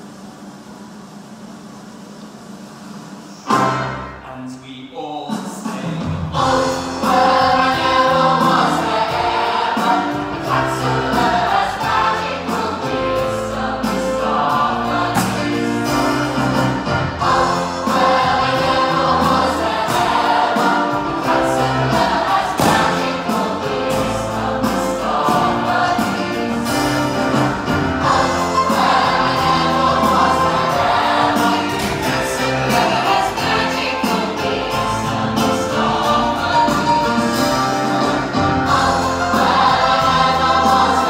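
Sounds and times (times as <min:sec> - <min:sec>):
pit band playing: 0:02.4 - 0:41.0
chorus singing: 0:03.4 - 0:04.6, 0:05.7 - 0:41.0.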